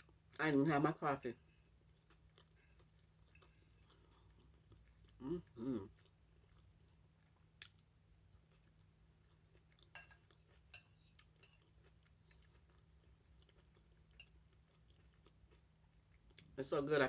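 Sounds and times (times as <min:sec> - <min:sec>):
faint low hum: 0:00.0 - 0:17.0
quiet chewing: 0:01.5 - 0:16.6.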